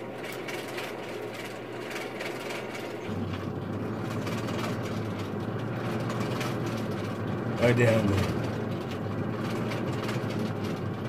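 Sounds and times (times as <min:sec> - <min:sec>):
air blower humming: 0:00.0 - 0:11.0.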